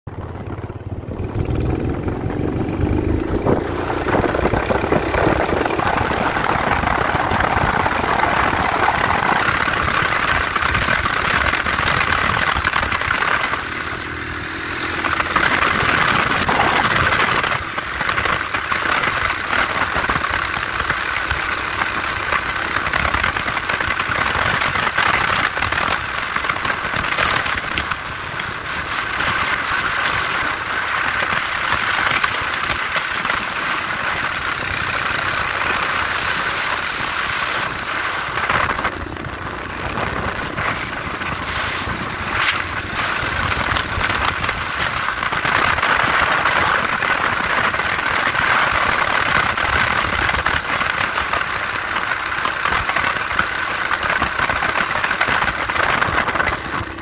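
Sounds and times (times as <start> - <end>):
motorcycle engine: 0.0 - 57.0
wind noise: 0.1 - 57.0.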